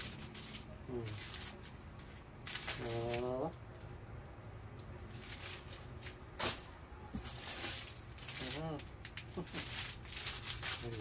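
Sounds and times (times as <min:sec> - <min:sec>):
paper and packaging rustling: 0:00.0 - 0:03.5, 0:05.0 - 0:11.0.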